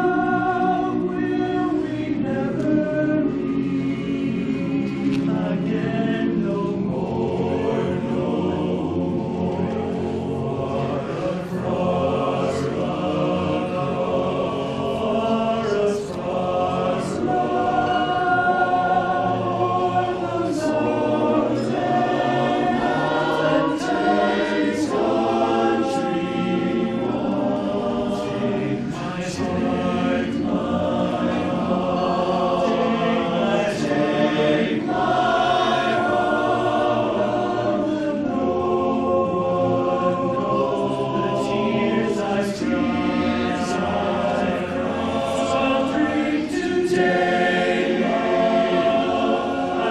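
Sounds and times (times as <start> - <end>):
barbershop chorus singing a cappella: 0.0 - 49.9.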